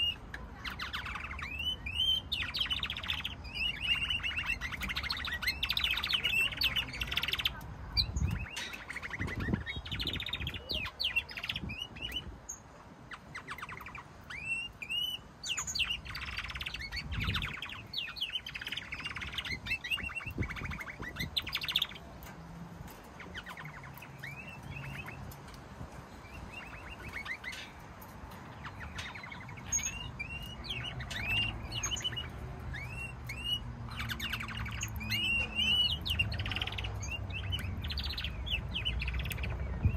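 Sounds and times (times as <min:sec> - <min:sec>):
canaries chirping and trilling: 0:00.0 - 0:39.9.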